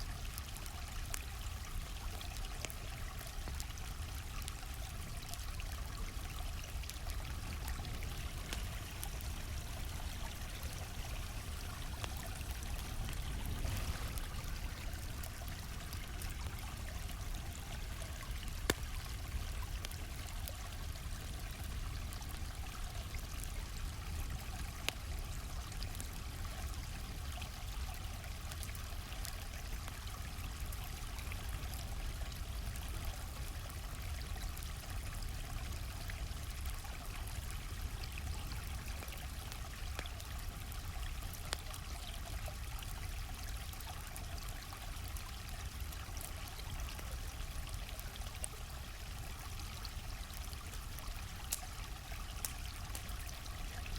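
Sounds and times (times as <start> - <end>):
campfire crackling: 0.0 - 53.9
flowing stream: 0.0 - 53.9.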